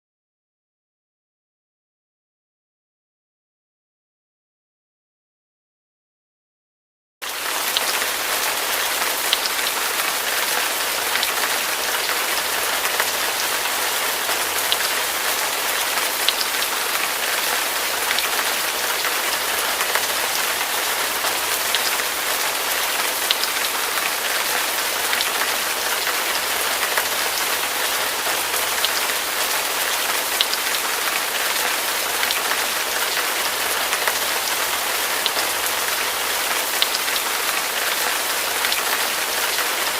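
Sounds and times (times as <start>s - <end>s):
heavy rain falling: 7.2s - 39.9s.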